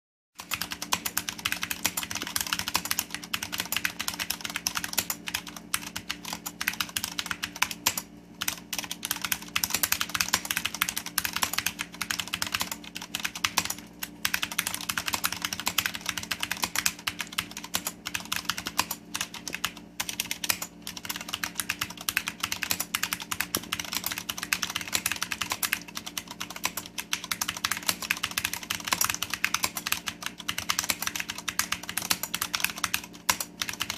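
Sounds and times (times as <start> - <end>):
mechanical keyboard typing: 0.4 - 33.9.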